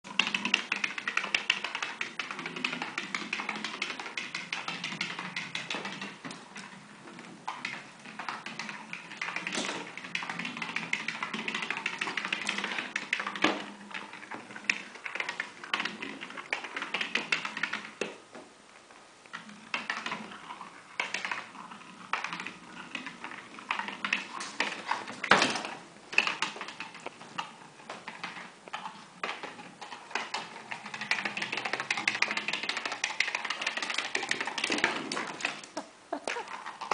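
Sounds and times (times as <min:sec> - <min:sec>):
plastic ball rolling on floor: 0:00.0 - 0:36.9.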